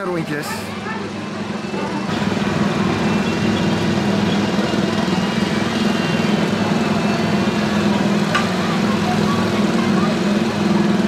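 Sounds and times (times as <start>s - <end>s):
small petrol engines droning: 0.0s - 11.0s.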